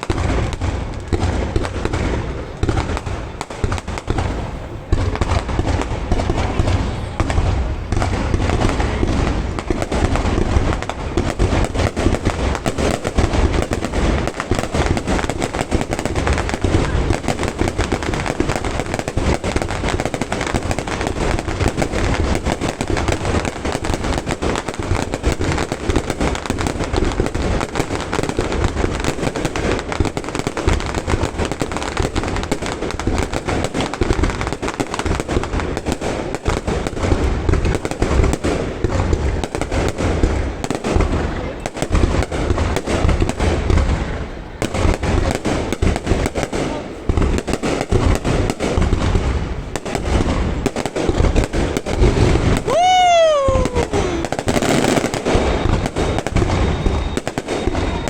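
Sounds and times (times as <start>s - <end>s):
deep fireworks booms: 0.0s - 58.0s
fireworks bangs and crackles: 0.0s - 58.0s.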